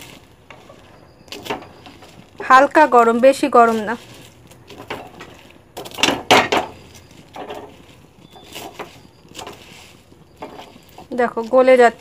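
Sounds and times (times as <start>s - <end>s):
puffed rice rustling and crunching: 0.0s - 12.0s.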